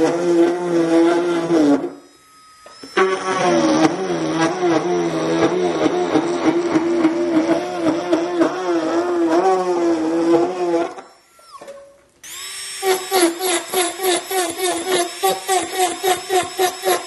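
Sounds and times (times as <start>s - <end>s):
grinding bit shaving plastic: 0.0s - 11.6s, 12.2s - 17.0s
rotary tool drilling plastic: 0.0s - 17.0s.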